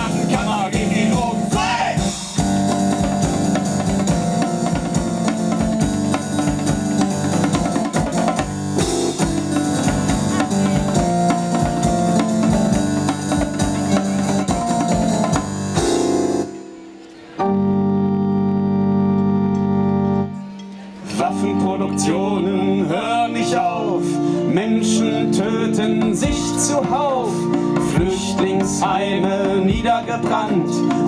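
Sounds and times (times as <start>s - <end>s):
held keyboard chord: 0.0s - 31.0s
live band playing: 0.0s - 31.0s.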